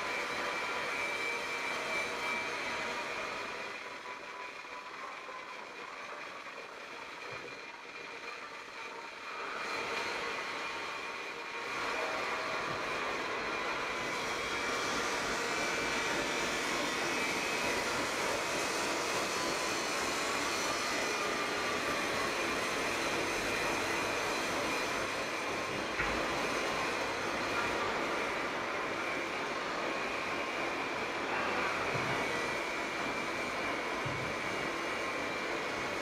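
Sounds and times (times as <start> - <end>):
machine whirring and whining: 0.0 - 36.0.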